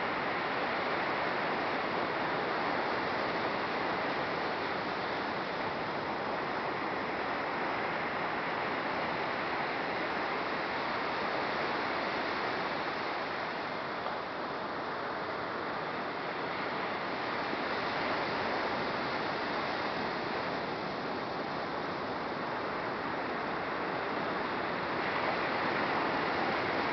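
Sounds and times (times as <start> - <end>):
surf breaking on a beach: 0.0 - 26.9
wind: 0.0 - 26.9.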